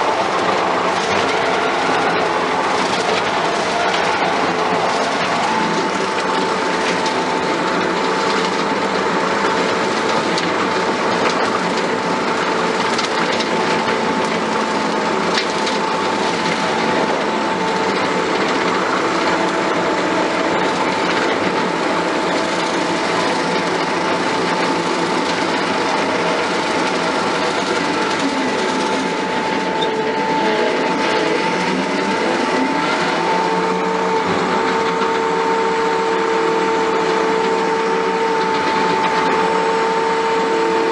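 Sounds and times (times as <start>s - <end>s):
constant high whine: 0.0s - 40.9s
mower blades cutting grass: 0.0s - 40.9s
skid steer engine running: 0.0s - 40.9s.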